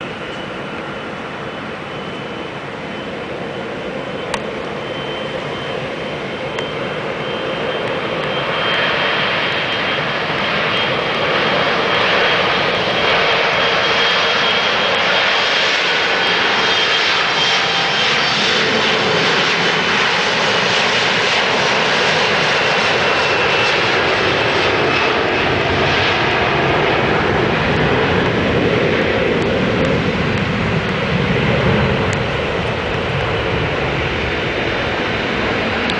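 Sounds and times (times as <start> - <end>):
jet engines at takeoff thrust: 0.0 - 35.9.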